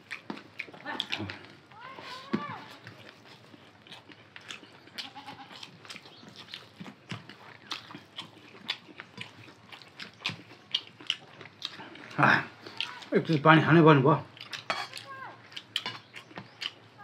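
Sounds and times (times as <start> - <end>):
people eating with wet smacks: 0.0 - 17.0.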